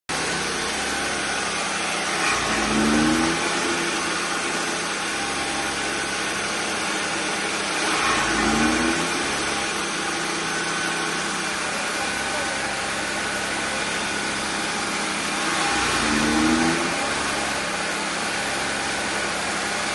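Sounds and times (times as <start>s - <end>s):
chaff cutter engine din: 0.1s - 19.9s.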